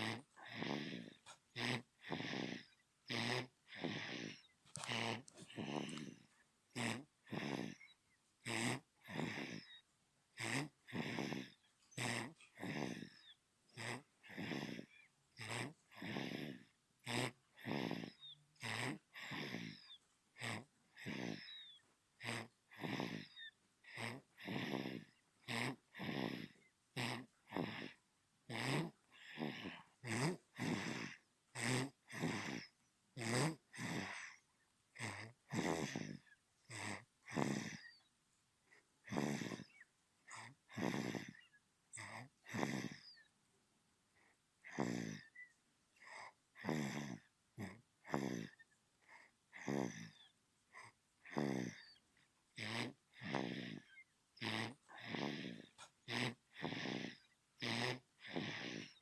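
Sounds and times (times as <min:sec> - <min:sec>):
baby snoring: 0:00.0 - 0:38.1, 0:38.7 - 0:43.3, 0:44.2 - 0:59.0.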